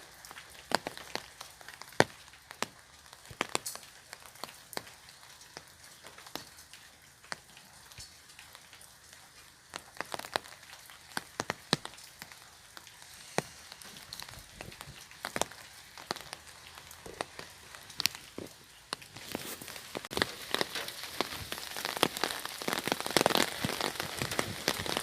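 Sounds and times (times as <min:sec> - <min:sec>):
faint rain patter: 0:00.0 - 0:25.0
raindrops tapping on umbrella: 0:00.0 - 0:25.0.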